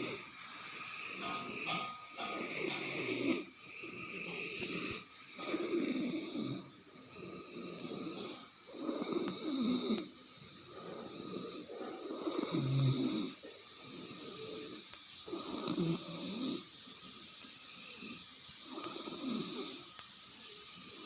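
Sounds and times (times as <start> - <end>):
person snoring heavily: 0.0 - 16.8, 17.7 - 20.0
soft breathing: 0.0 - 21.0.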